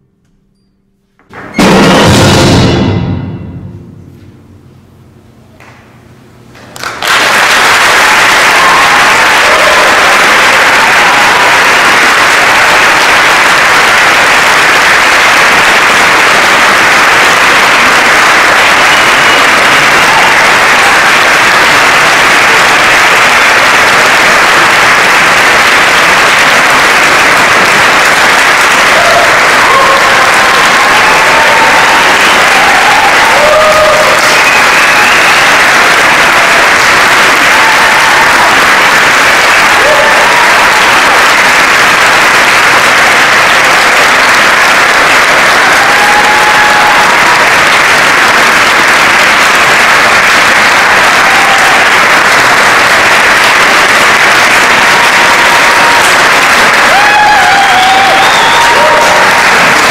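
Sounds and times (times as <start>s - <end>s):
audience applause: 6.6s - 59.9s
crowd calls: 6.8s - 59.9s.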